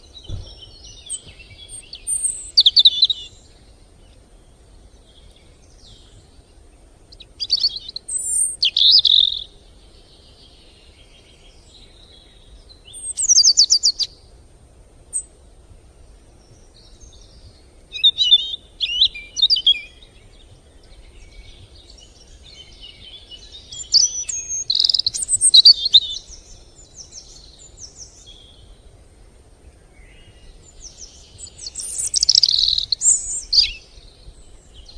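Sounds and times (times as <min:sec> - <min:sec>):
faint background hiss: 0:00.0 - 0:34.9
songbirds chirping and trilling: 0:00.0 - 0:34.9.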